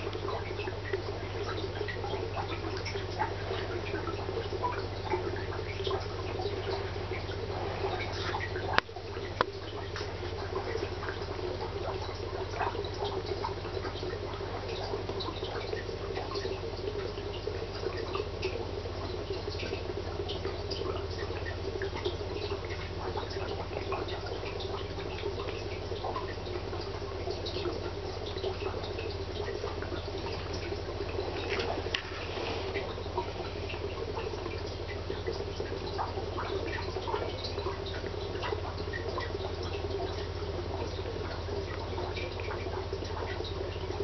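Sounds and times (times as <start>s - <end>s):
aquarium water bubbling and trickling: 0.0s - 44.0s
low steady hum: 0.0s - 44.0s
small drip-like pops: 0.0s - 44.0s.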